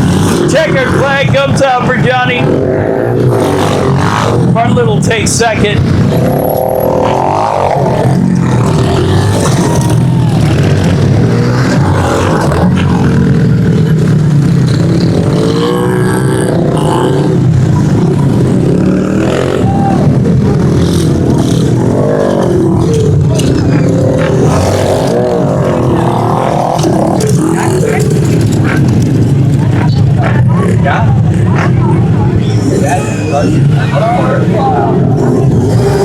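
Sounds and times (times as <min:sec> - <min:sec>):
pit bike engines revving: 0:00.0 - 0:36.0.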